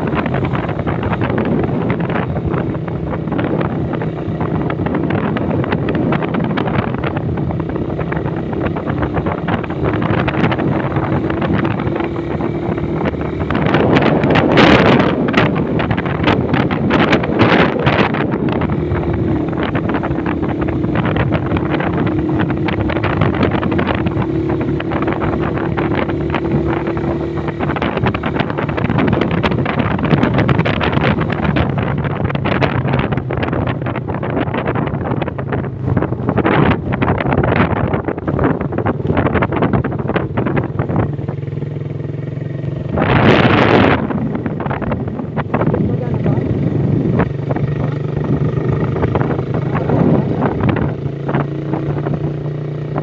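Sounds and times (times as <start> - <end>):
motorcycle engine cruising: 0.0 - 53.0
wind noise on microphone: 0.0 - 53.0.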